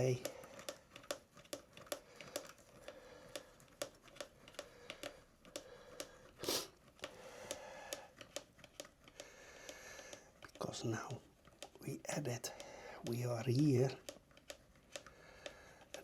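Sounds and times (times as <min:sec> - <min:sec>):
tools clicking and tapping: 0:00.0 - 0:16.0.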